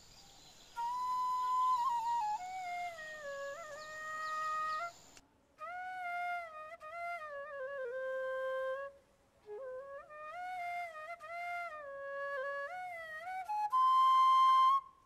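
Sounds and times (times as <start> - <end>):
solo flute melody: 0.6 - 15.0.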